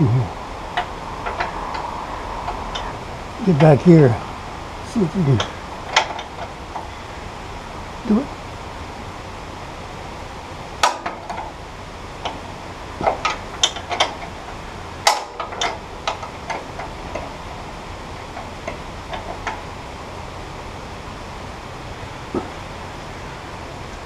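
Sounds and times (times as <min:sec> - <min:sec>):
background hiss: 0:00.0 - 0:24.0.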